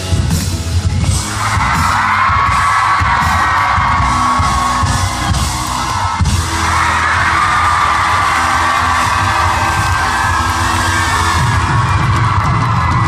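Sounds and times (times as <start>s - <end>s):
live band music: 0.0s - 13.0s
audience yelling and whooping: 1.0s - 13.0s.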